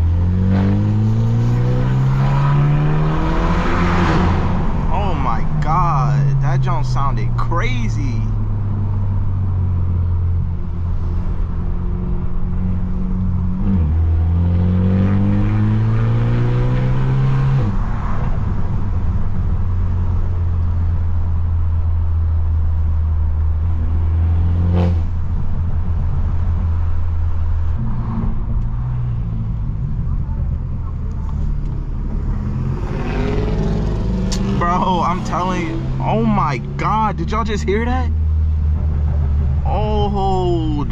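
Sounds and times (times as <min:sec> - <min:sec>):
car engine and exhaust droning: 0:00.0 - 0:40.9.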